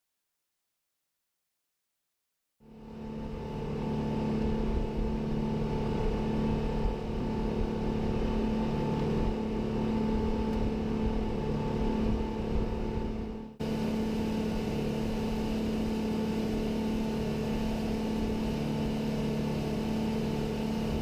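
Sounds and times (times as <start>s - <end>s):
boat engine droning: 2.6s - 21.0s.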